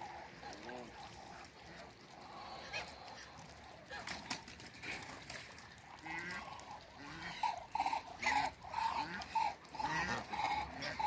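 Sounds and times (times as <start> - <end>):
ducks calling: 0.0 - 3.8, 4.9 - 11.0.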